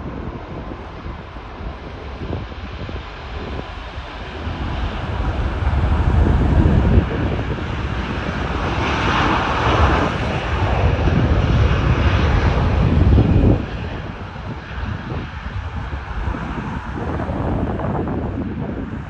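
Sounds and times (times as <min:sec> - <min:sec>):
jet engines at takeoff thrust: 0:00.0 - 0:19.0
wind buffeting microphone: 0:00.0 - 0:19.0.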